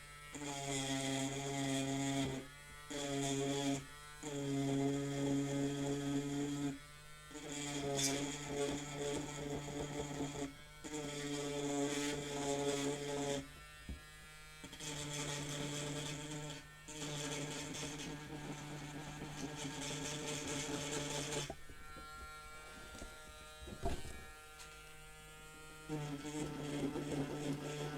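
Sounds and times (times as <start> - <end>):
electric rotary tool humming: 0.0 - 27.9.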